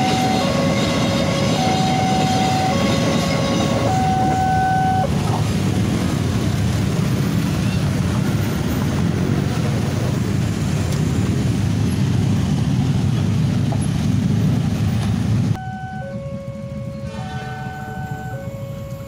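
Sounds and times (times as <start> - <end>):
road traffic rumbling: 0.0 - 19.0.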